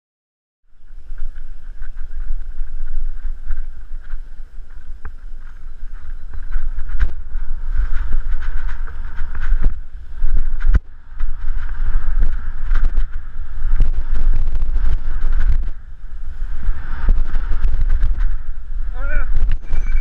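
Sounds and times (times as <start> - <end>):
wind buffeting microphone: 0.7 - 20.0
bike rattling and knocking: 0.8 - 19.9.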